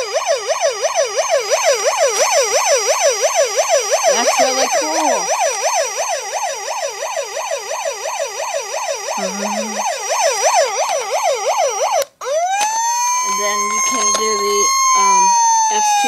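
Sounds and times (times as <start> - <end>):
toy fire truck siren wailing: 0.0 - 16.0.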